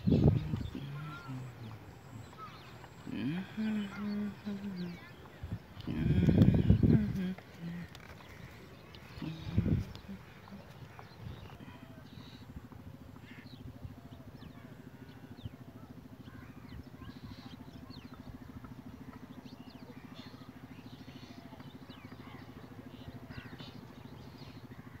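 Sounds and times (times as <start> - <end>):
low pulsing drone: 0.0 - 25.0
small birds chirping: 0.0 - 25.0.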